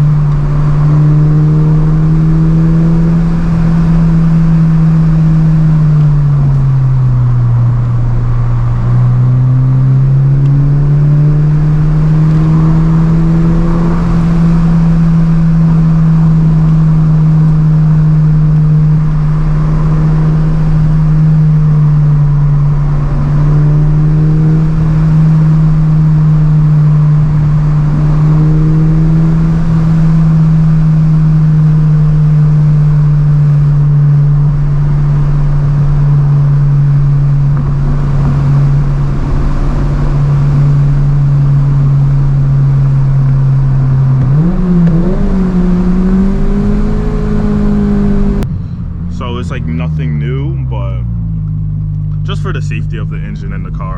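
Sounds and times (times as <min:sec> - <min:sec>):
car engine running: 0:00.0 - 0:53.9
road noise: 0:00.0 - 0:53.9.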